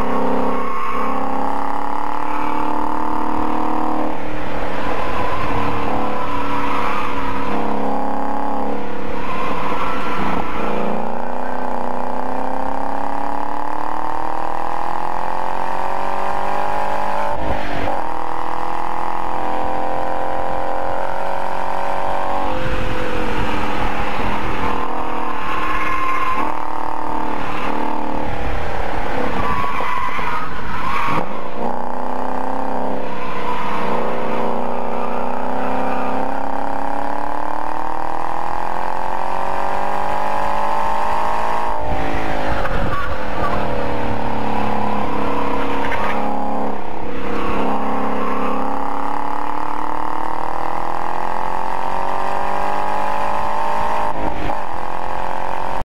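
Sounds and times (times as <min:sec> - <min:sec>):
tyre squeal: 0:00.0 - 0:18.6, 0:21.0 - 0:37.3, 0:38.4 - 0:55.8
car engine accelerating: 0:00.0 - 0:55.9.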